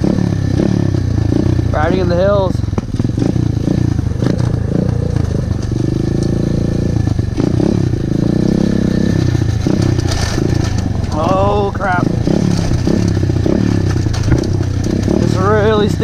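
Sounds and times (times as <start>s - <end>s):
engine clatter: 0.0s - 16.0s
pit bike engine revving: 0.0s - 16.0s.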